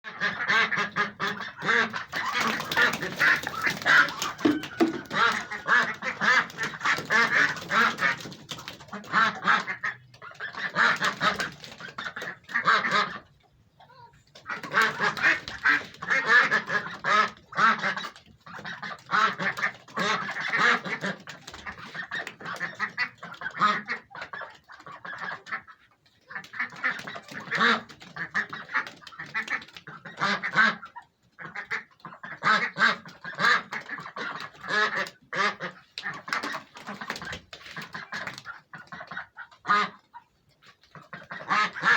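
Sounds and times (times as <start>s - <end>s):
ducks quacking: 0.0s - 41.9s.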